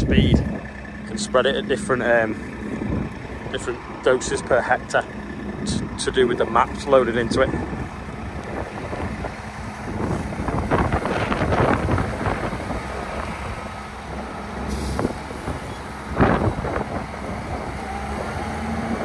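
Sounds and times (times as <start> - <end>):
tractor engines running: 0.0 - 19.0.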